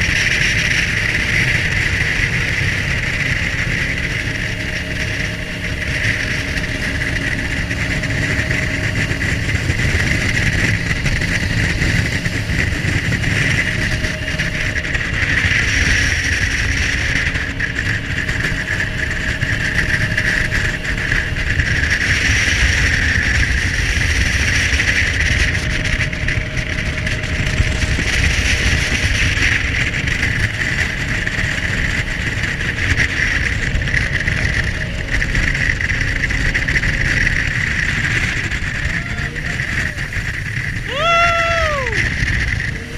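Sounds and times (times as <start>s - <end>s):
jet boat engine at speed: 0.0s - 42.9s.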